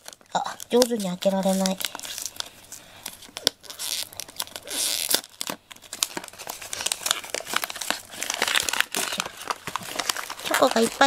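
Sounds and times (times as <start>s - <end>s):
paper wrapping crinkling and tearing: 0.0s - 11.0s.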